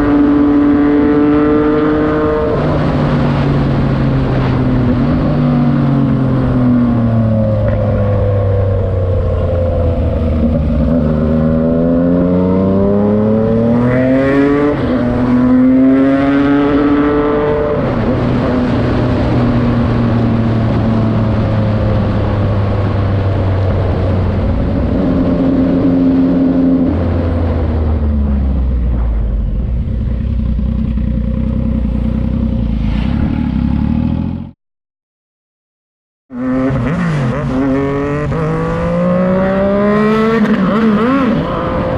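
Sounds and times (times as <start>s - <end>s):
motorcycle engine revving: 0.0s - 34.6s, 36.3s - 41.9s.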